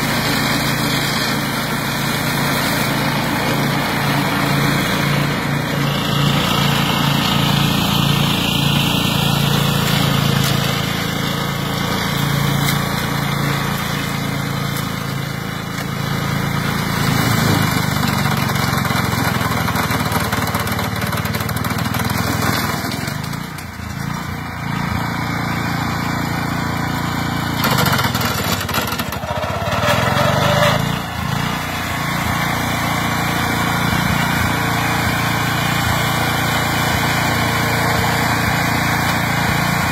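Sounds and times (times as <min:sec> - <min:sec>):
flail mower engine running: 0:00.0 - 0:39.9.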